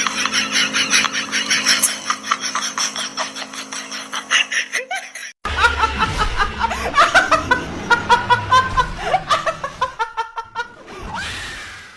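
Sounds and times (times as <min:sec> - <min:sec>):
woman cackling laughter: 0:00.1 - 0:10.8.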